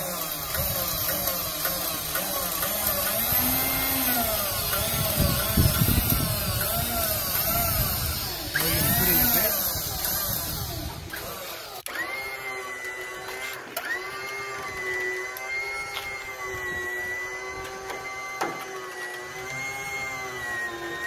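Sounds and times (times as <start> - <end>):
winch motor whining under load: 0.0 - 21.0.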